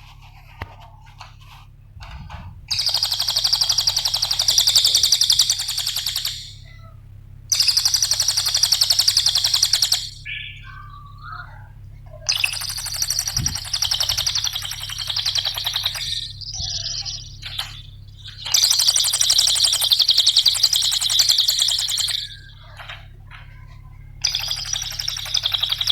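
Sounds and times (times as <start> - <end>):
faint low hum: 0.0 - 25.9
songbird chirping and trilling: 2.0 - 25.9.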